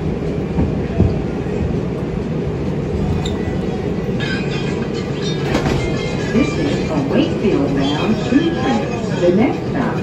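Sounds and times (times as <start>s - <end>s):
subway car rumbling: 0.0s - 10.0s.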